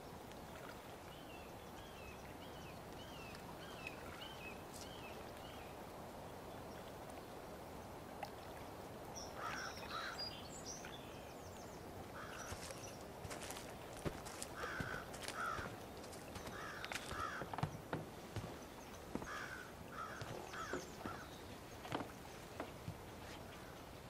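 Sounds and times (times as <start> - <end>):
low background hiss: 0.0 - 24.0.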